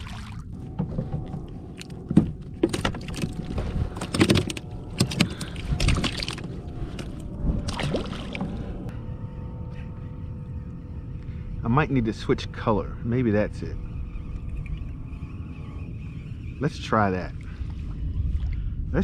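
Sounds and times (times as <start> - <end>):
wind and water rumble: 0.0 - 19.0
faint steady hum: 0.3 - 19.0.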